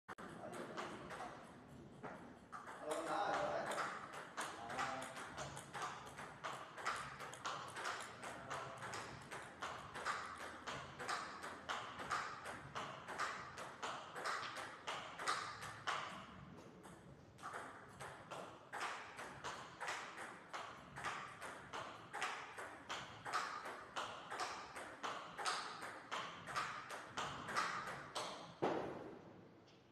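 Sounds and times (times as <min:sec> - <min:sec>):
table tennis ball clicking: 0:00.2 - 0:28.6.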